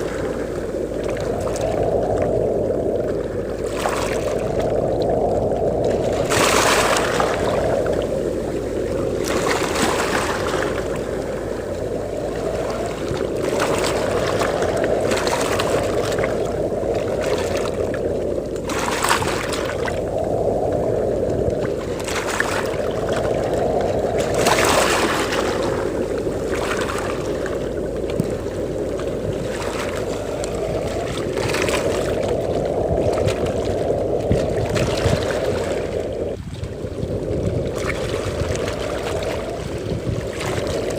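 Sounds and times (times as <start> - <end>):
breaking waves hissing: 0.0 - 40.9
low rumble of surf: 0.0 - 40.9
wind: 0.0 - 40.9.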